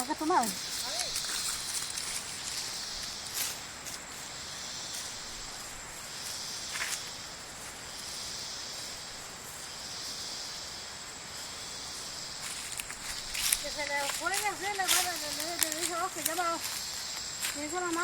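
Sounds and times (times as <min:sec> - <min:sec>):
insect chorus droning: 0:00.0 - 0:18.0.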